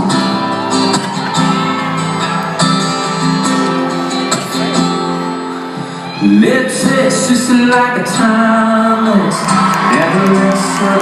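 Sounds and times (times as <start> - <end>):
live band playing: 0.0 - 11.0
strummed acoustic guitar: 0.0 - 11.0.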